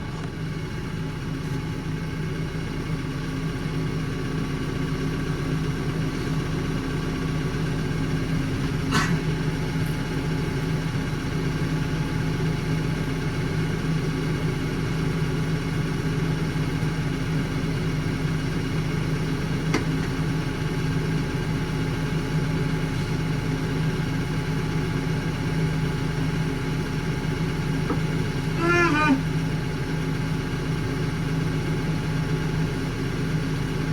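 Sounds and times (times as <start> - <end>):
large engine idling: 0.0 - 33.9.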